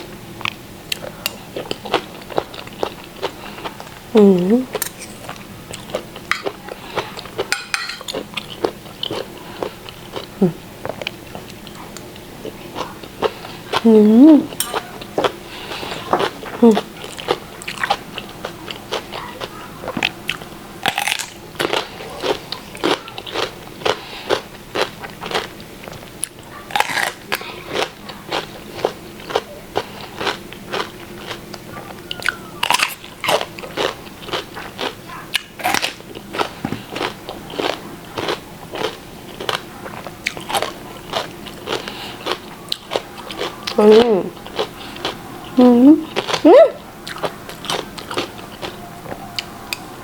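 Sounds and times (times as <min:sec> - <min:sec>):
person chewing wet crunches: 0:00.4 - 0:49.9.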